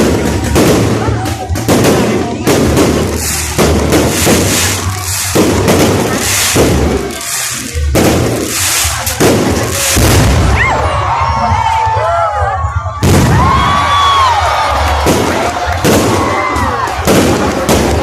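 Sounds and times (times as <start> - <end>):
crackle of firework bursts: 0.0 - 10.7, 13.0 - 18.0
fireworks banging: 0.0 - 10.9, 13.0 - 18.0.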